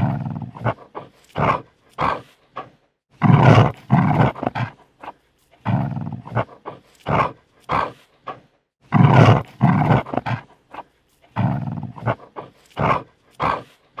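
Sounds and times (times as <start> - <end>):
dog snarling: 0.0 - 14.0.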